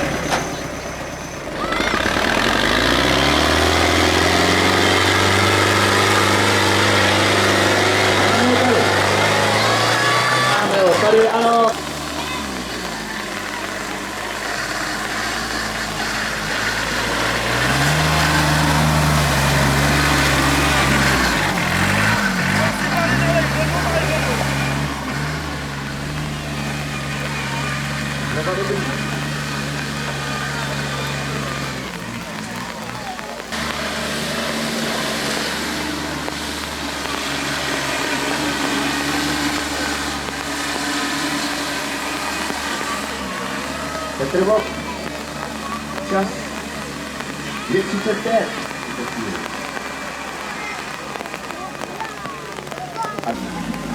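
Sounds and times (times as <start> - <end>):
tractor engine running: 0.0 - 53.9
broad wash of noise: 1.7 - 53.9.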